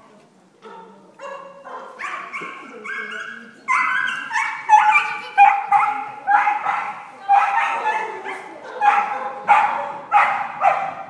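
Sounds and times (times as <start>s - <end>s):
dog barking high-pitched: 0.7s - 11.0s.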